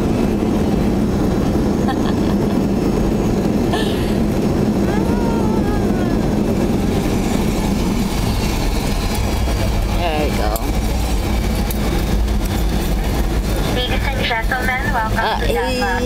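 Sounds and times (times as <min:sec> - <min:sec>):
jetliner cabin noise: 0:00.0 - 0:16.0.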